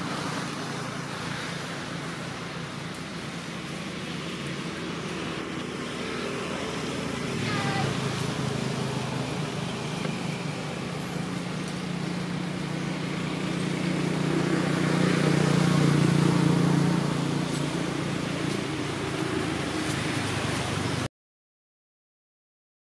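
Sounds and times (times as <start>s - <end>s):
road traffic noise: 0.0s - 21.1s
vehicle engine passing: 0.0s - 21.1s.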